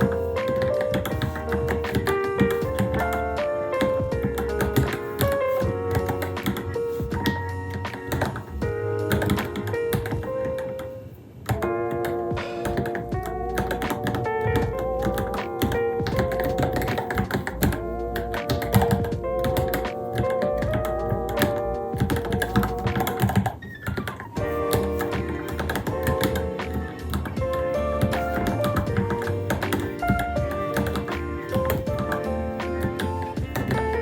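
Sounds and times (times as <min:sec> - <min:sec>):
mechanical keyboard typing: 0:00.0 - 0:10.9, 0:11.5 - 0:34.0
background music: 0:00.0 - 0:34.0.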